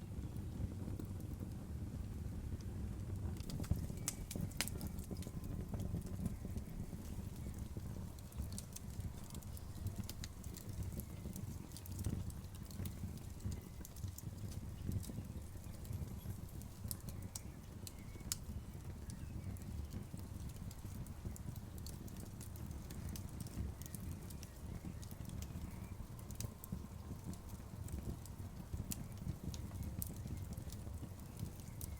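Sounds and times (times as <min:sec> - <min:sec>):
fire flame rumble: 0:00.0 - 0:31.9
burning wood popping: 0:00.1 - 0:31.9.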